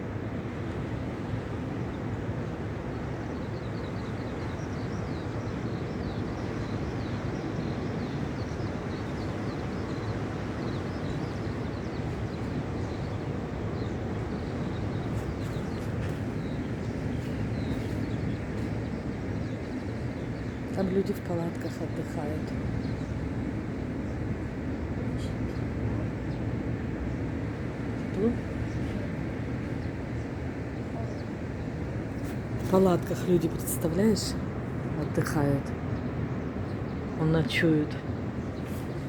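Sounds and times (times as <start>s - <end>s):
sea surf rumble: 0.0s - 39.0s
wind: 0.0s - 39.0s.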